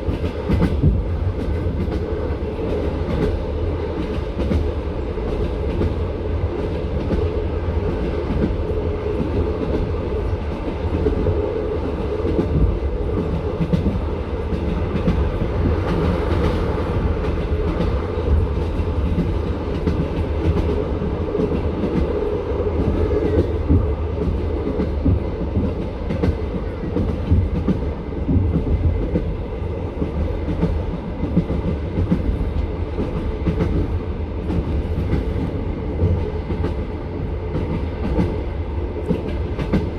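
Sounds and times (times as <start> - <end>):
train carriage rumble: 0.0 - 39.9.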